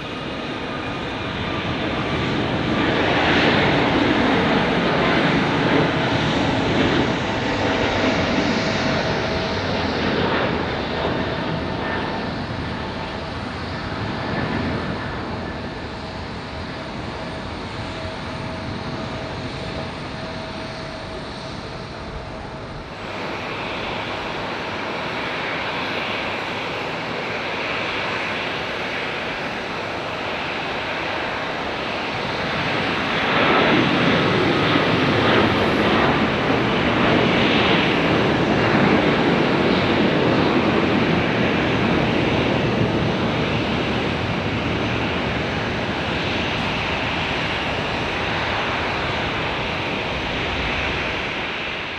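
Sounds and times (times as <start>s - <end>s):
jet engine roar: 0.0s - 51.9s
rushing airport ambience: 0.0s - 51.9s.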